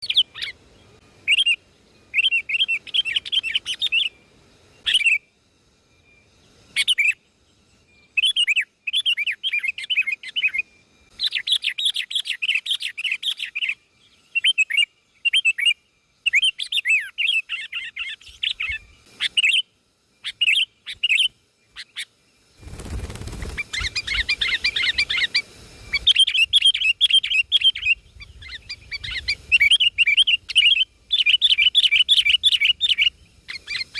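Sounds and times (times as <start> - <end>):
bird chirping: 0.0 - 33.9.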